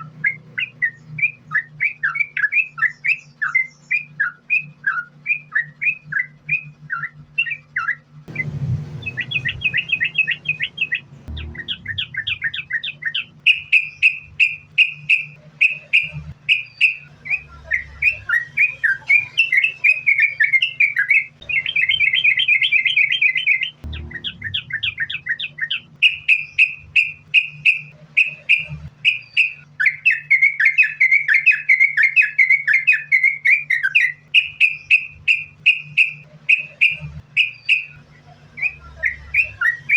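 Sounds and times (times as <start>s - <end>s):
bird singing chattering notes: 0.0s - 39.9s
faint low hum: 0.0s - 39.9s.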